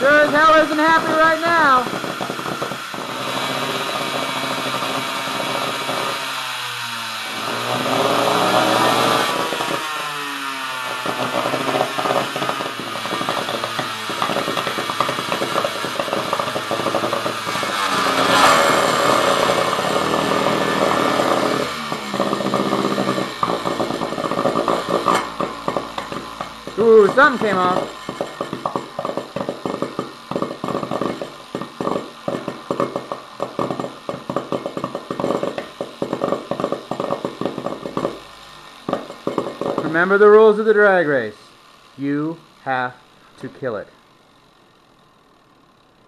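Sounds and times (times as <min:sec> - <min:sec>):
electric motor harsh crackling whine: 0:00.0 - 0:46.0.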